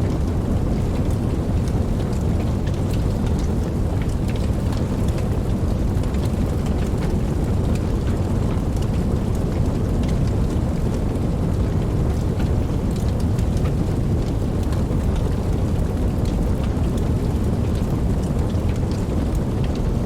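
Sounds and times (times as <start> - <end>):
raindrop ticks: 0.0 - 20.0
steady rain hiss: 0.0 - 20.0.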